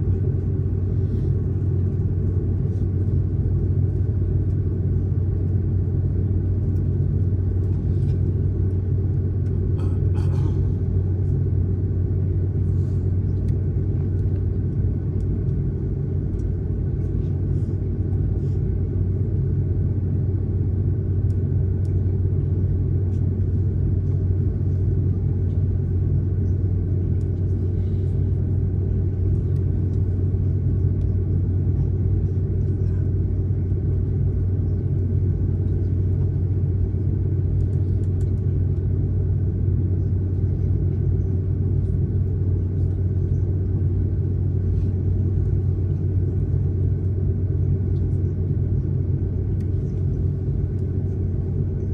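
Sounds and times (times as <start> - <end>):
jet airliner cabin rumble: 0.0 - 51.9.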